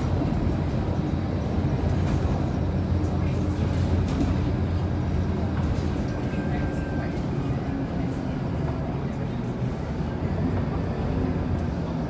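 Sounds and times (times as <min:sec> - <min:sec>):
bus diesel engine drone: 0:00.0 - 0:12.0.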